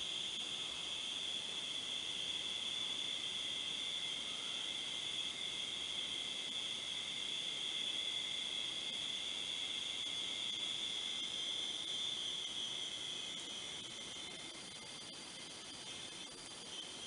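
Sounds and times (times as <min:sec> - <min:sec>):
high-pitched data tone: 0:00.0 - 0:17.0.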